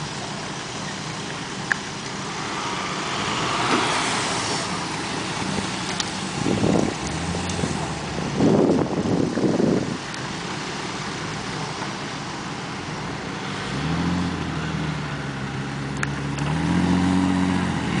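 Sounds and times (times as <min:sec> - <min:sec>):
suv engine revving: 0:00.0 - 0:18.0.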